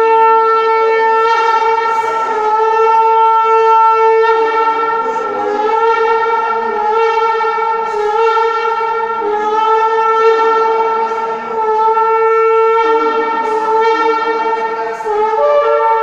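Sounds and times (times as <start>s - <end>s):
ram's horn long note: 0.0s - 16.0s.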